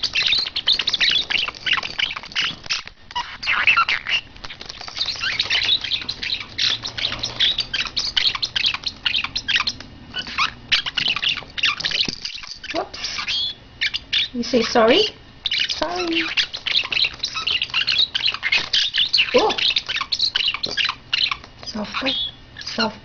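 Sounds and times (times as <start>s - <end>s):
bird squawking and chattering: 0.0s - 23.0s.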